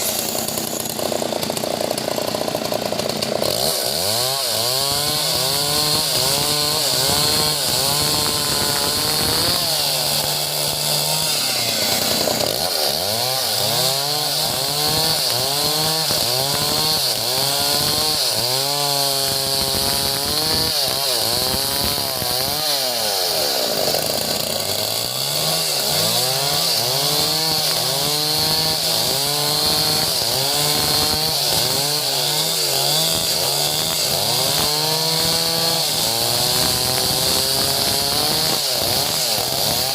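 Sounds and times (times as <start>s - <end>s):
chainsaw sawing a log: 0.0s - 39.9s.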